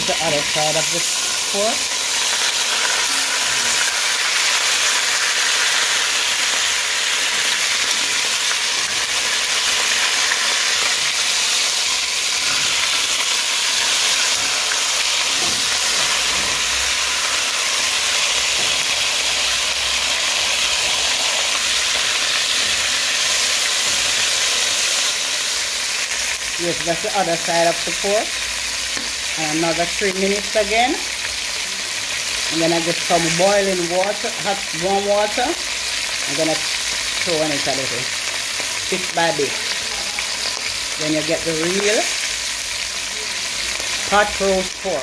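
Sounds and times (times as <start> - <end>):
meat sizzling in a pot: 0.0 - 45.0.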